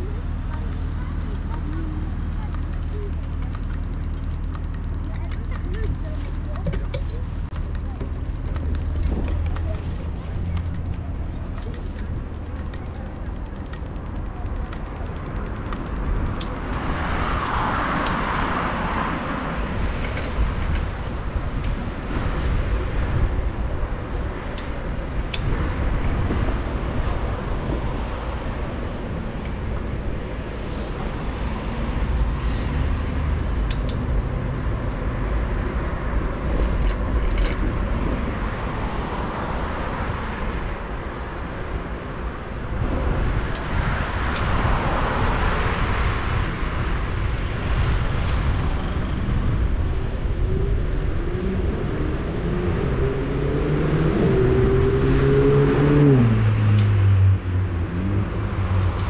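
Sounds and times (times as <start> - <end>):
passing cars: 0.0 - 59.0
wind rumble on microphone: 0.0 - 59.0.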